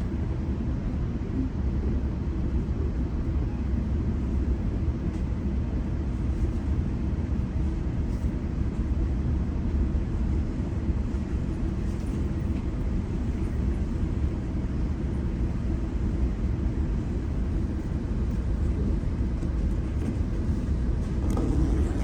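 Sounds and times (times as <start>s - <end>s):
train rumbling at speed: 0.0s - 22.0s.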